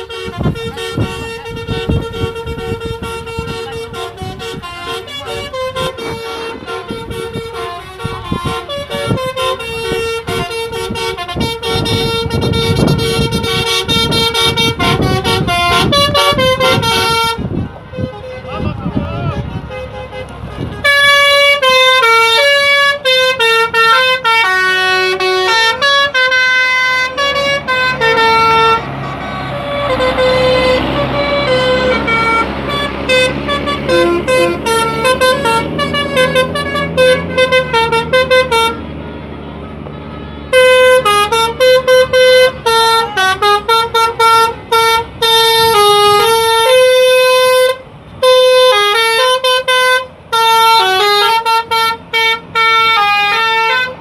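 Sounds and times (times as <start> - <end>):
musical air horn playing tune: 0.0 - 54.0.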